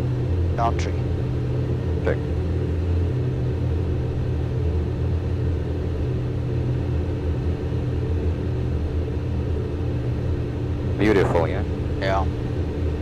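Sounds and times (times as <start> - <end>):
jet cockpit rumble: 0.0 - 13.0
steady hum: 0.0 - 13.0.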